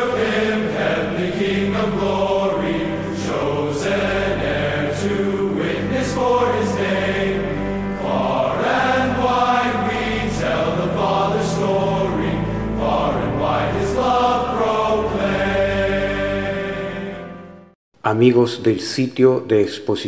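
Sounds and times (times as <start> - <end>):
chant-like vocals: 0.0 - 17.4.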